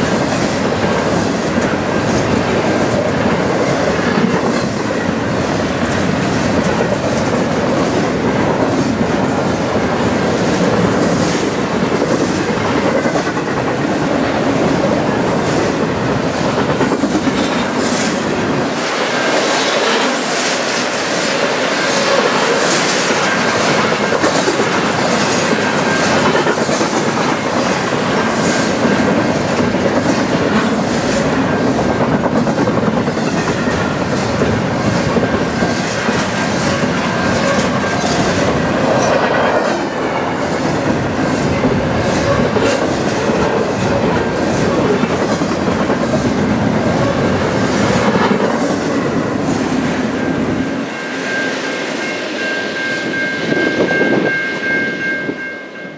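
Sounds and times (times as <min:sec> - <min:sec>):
wheels clickety-clack over joints: 0:00.0 - 0:49.6
freight train rushing past: 0:00.0 - 0:55.9.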